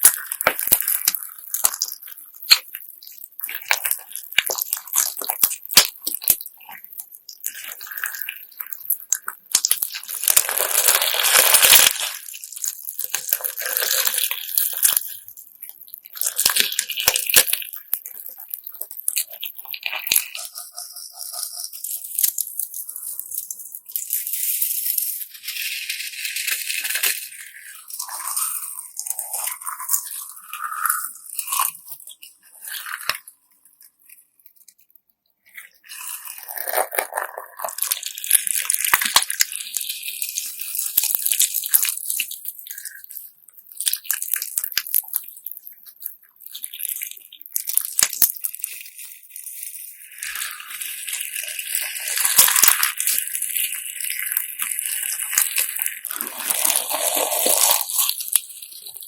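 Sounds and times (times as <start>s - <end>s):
gritty slime crunching: 0.0s - 34.8s, 35.5s - 59.0s.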